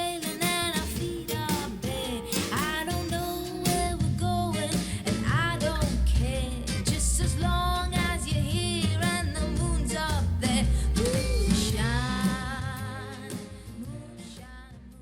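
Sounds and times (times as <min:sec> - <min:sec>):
song with singing drums and bass: 0:00.0 - 0:15.0.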